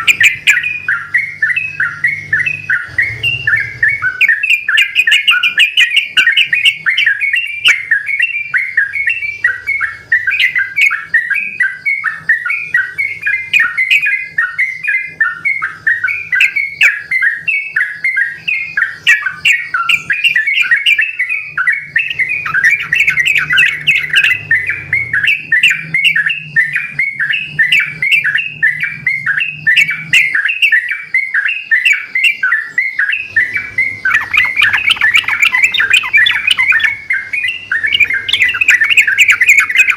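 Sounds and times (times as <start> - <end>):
birds chattering song: 0.0 - 39.9.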